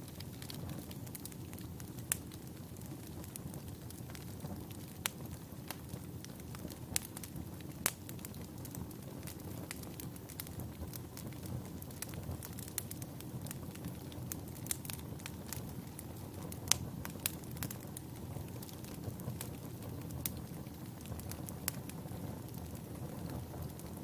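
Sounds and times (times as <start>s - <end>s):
flame rumble: 0.0s - 24.0s
wood fire crackling: 0.0s - 24.0s.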